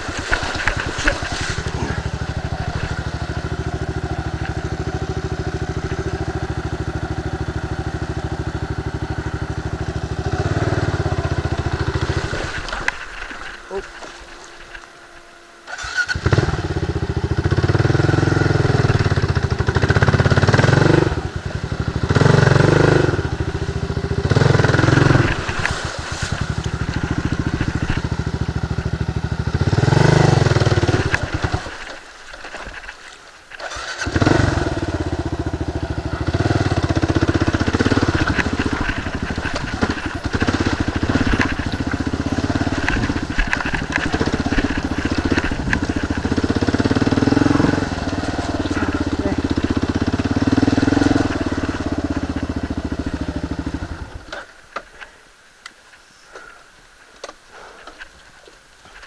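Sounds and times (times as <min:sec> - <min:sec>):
motorcycle engine revving: 0:00.0 - 0:32.9, 0:33.5 - 0:54.5.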